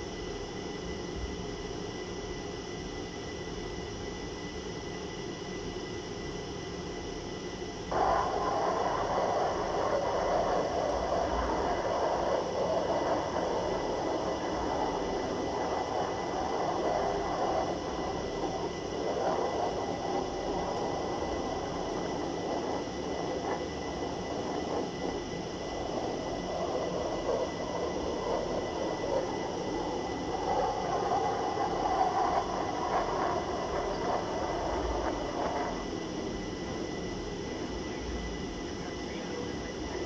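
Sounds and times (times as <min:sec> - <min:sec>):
jet engines running: 0:04.9 - 0:40.0.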